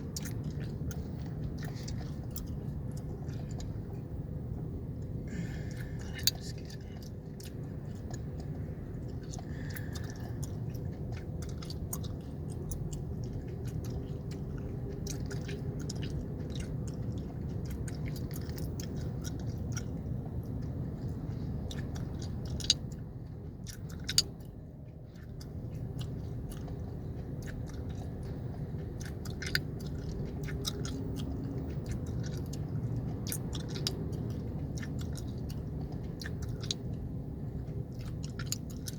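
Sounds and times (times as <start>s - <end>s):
car cabin hum: 0.0s - 38.9s
gum chewing smacks: 0.0s - 38.9s.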